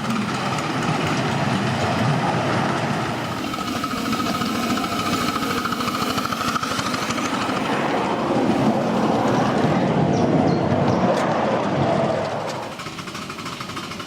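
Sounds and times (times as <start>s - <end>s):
miniature train running on track: 0.0s - 10.4s, 11.1s - 14.0s.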